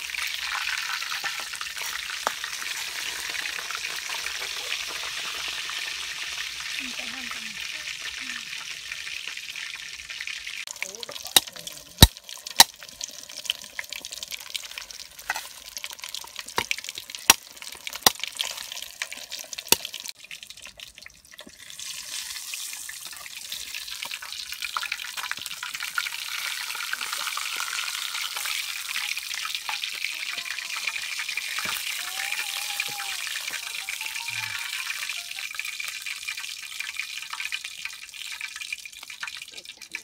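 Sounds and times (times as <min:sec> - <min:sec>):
fish frying in hot oil: 0:00.0 - 0:40.0.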